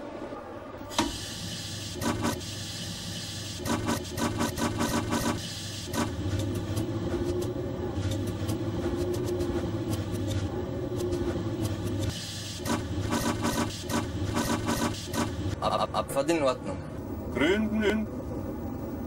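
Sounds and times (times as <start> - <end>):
steady machine hum: 1.7 - 19.0.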